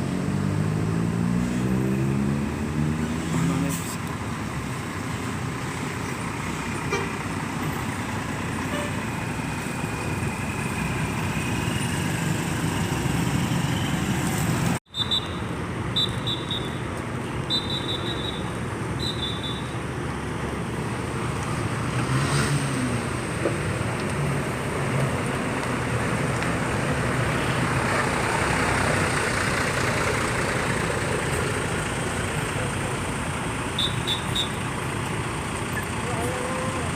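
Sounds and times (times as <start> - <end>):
traffic noise: 0.0 - 36.9
bus diesel engine running: 3.4 - 21.8, 23.0 - 36.9.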